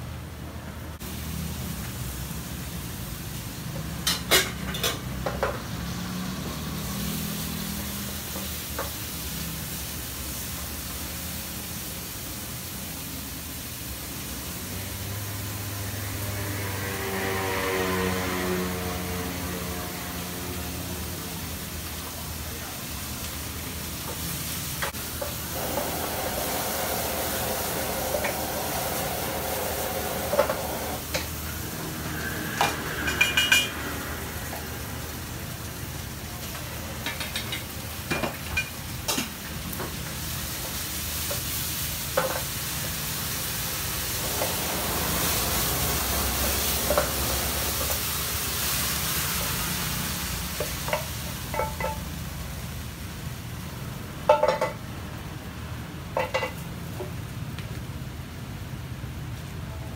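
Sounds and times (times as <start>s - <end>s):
meat sizzling in a wok: 0.9s - 59.6s.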